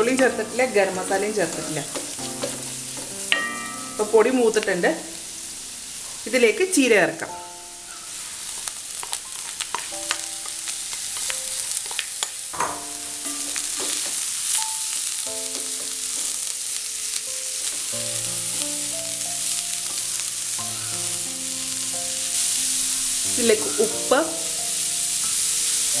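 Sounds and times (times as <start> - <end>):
spinach sizzling in hot oil: 0.0 - 26.0.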